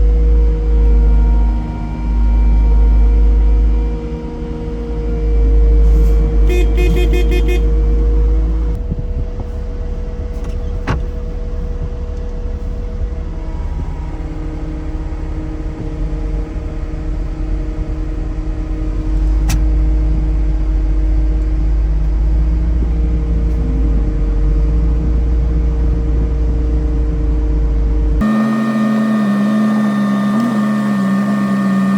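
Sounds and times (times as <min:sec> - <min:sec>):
vehicle engine rumbling: 0:00.0 - 0:31.9.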